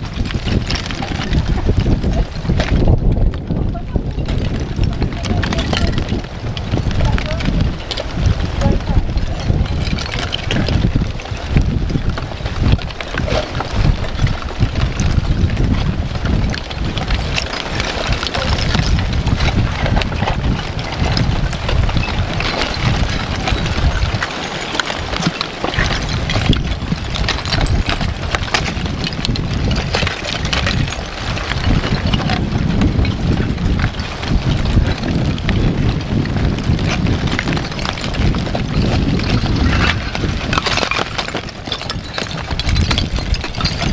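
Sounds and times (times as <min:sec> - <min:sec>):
lava crust crackling and clinking: 0:00.0 - 0:43.9
wind buffeting microphone: 0:00.0 - 0:43.9.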